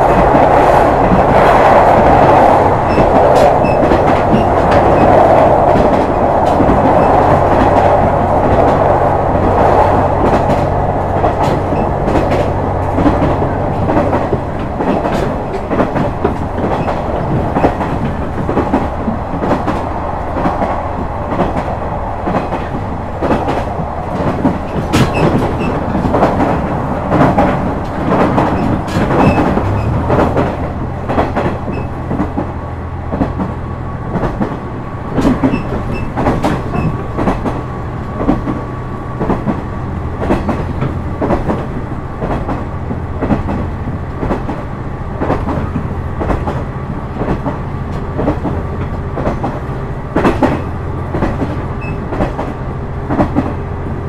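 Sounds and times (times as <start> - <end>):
train running rumble: 0.0 - 54.0
wheels clacking over rail joints: 0.0 - 54.0.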